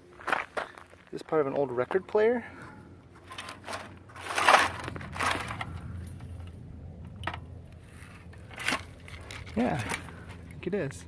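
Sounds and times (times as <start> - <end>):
gravel crunching: 0.0 - 11.0
low steady hum: 0.0 - 11.0.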